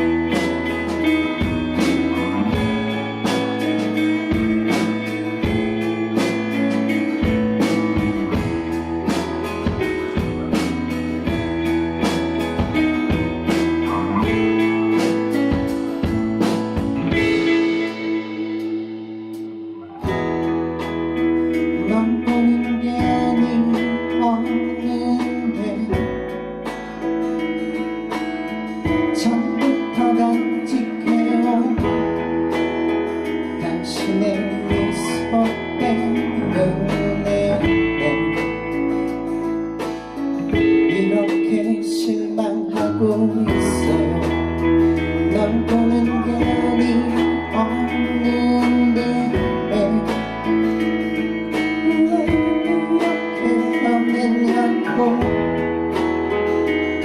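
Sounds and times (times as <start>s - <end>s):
bass notes: 0.0s - 57.0s
strummed guitar: 0.0s - 57.0s.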